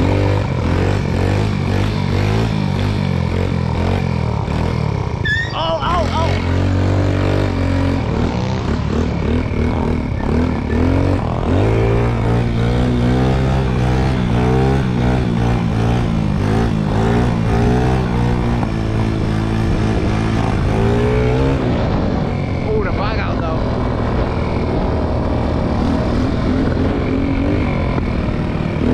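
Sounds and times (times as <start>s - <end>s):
moped engine revving: 0.0s - 28.9s.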